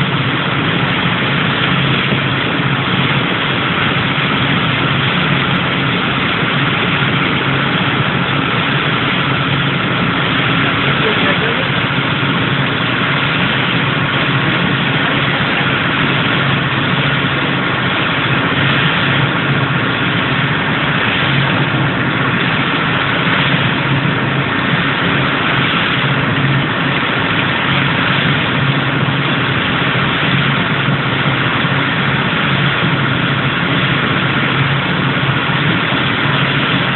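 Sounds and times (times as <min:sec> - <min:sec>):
boat engine running: 0:00.0 - 0:36.9
water hissing: 0:00.0 - 0:36.9
wind: 0:00.0 - 0:36.9.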